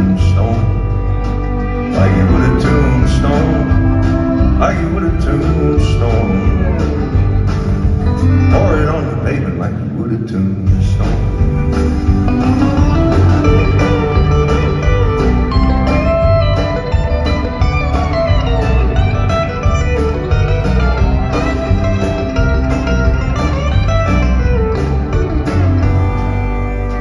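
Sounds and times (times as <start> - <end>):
steady drum beat: 0.0 - 9.2, 10.6 - 27.0
lead guitar: 0.0 - 9.6, 10.7 - 27.0
bass: 0.0 - 27.0.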